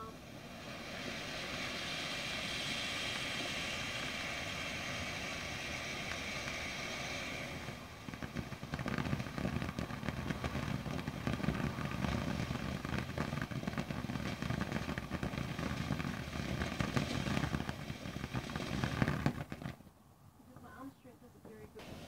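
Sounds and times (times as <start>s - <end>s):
firework fountain crackling: 0.0s - 22.0s.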